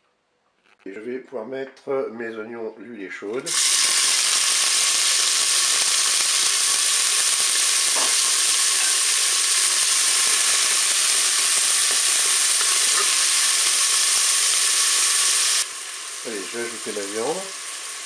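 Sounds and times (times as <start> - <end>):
onions sizzling in oil: 3.5 - 18.0.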